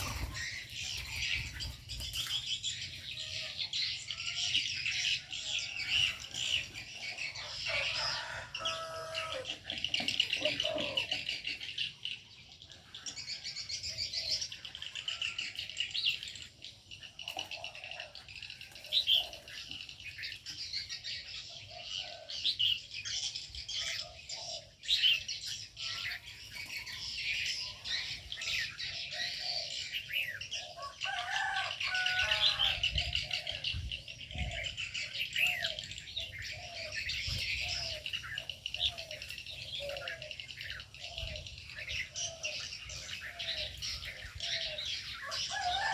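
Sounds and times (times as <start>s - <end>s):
small birds chirping and twittering: 0.0s - 45.9s.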